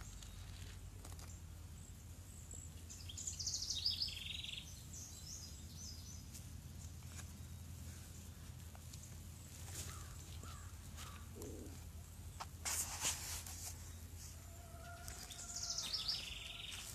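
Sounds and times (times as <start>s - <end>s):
small bird chirping: 0.0s - 12.5s, 14.9s - 16.9s
steady low hum: 0.0s - 16.9s.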